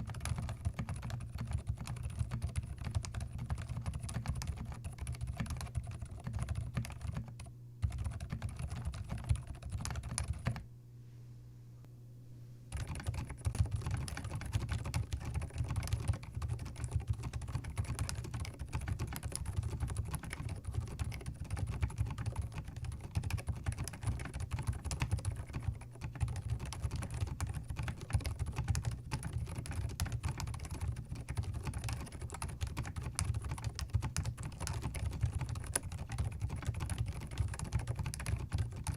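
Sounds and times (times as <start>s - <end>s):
mechanical keyboard typing: 0.0s - 10.6s, 12.7s - 38.9s.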